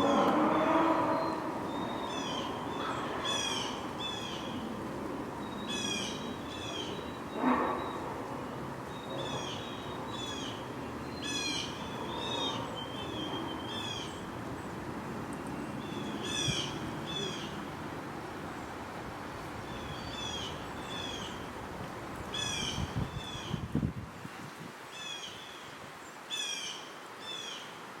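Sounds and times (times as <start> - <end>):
bird calling in downslurred notes: 0.0 - 23.6.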